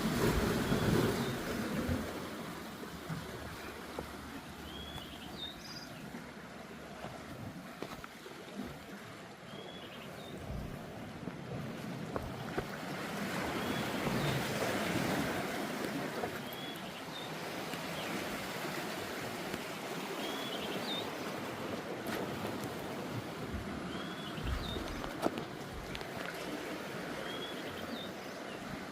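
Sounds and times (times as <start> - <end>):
sea waves on rocky shore: 0.0 - 28.9.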